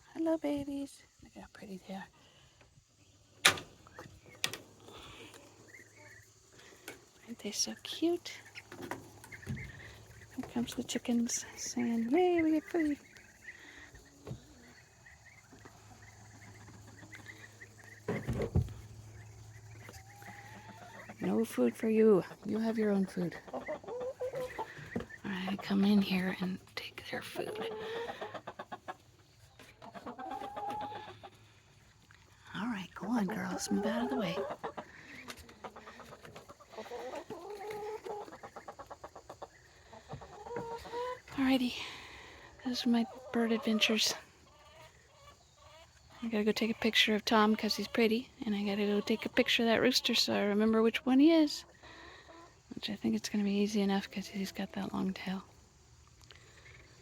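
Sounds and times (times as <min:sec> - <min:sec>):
chicks peeping: 0:02.6 - 0:57.0.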